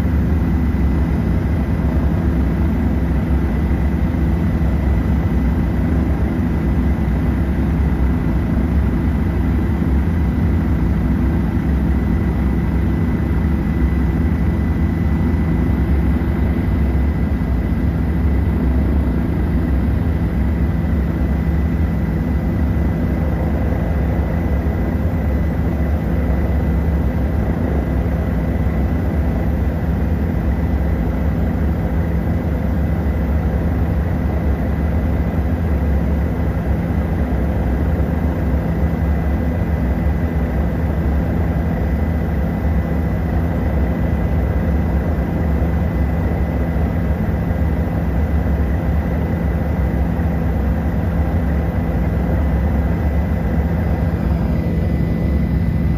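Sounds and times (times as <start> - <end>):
helicopter drone inside cabin: 0.0 - 55.9.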